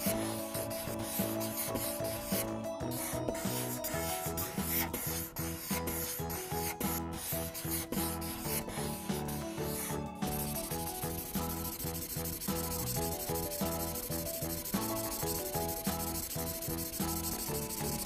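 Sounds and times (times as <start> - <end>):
felt-tip marker scratching on paper: 0.0 - 18.0
soft background music with bass: 0.0 - 18.0.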